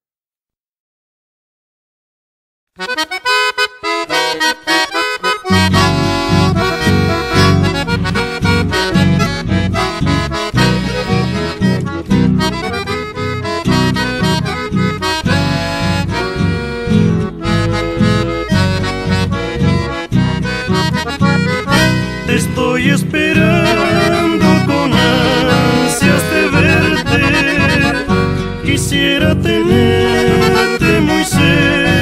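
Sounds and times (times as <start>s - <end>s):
accordion melody: 2.8s - 32.0s
bass line with rhythm accompaniment: 3.9s - 32.0s.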